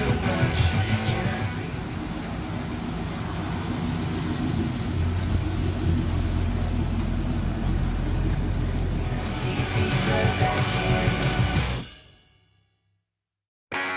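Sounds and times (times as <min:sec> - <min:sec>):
car engine humming: 0:00.0 - 0:11.8.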